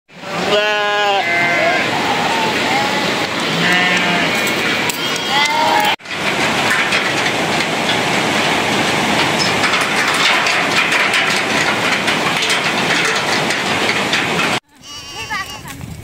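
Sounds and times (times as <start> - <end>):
hooves clattering on steel deck: 1.2 - 16.0
steady rushing noise: 1.4 - 14.6.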